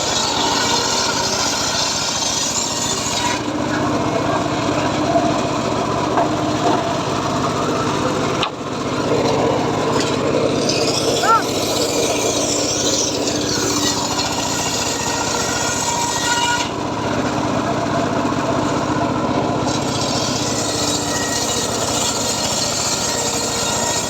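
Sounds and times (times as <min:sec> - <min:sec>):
circular saw cutting wood: 0:00.0 - 0:24.0.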